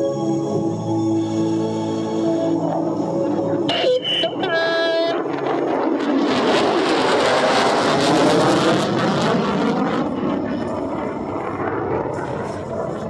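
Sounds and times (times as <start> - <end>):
fighter jet roar flying past: 2.1 - 13.0.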